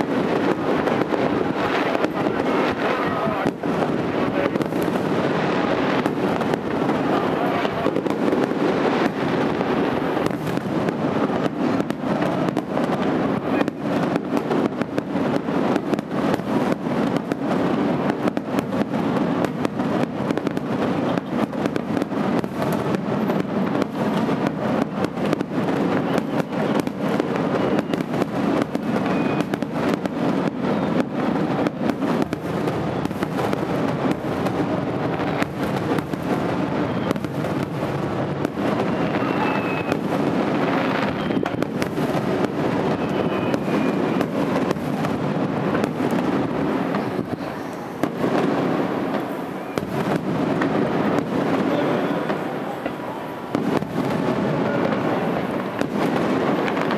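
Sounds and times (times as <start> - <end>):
firework bangs and crackles: 0.0 - 56.9.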